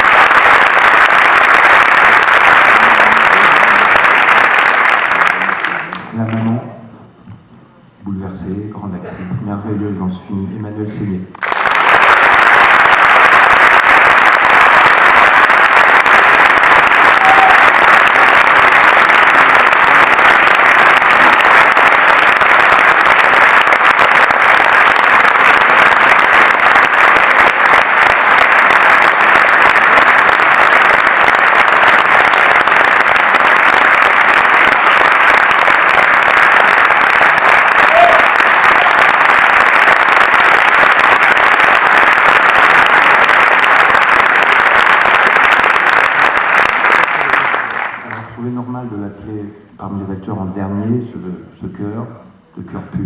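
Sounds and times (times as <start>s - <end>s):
audience applauding: 0.0s - 6.6s, 11.4s - 48.6s.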